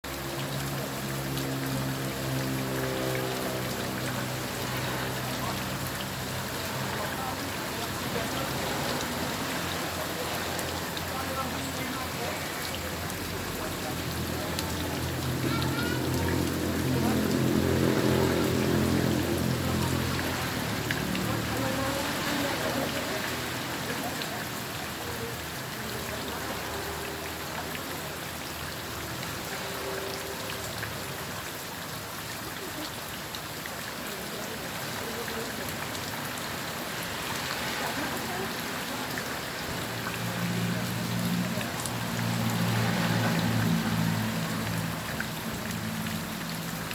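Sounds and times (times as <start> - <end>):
steady rain pattering: 0.0 - 46.9.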